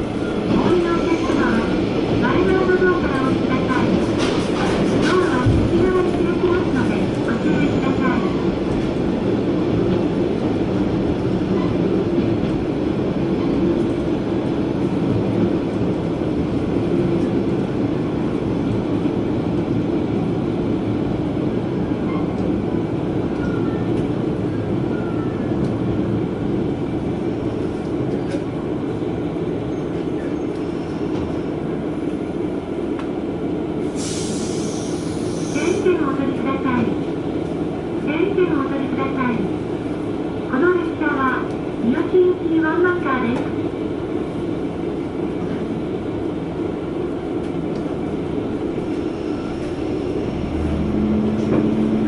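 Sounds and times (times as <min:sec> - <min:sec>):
railcar engine drone: 0:00.0 - 0:52.0.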